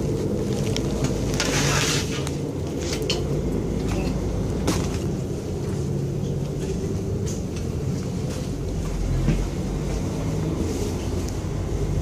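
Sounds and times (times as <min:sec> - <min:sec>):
train car drone and rumble: 0:00.0 - 0:12.0.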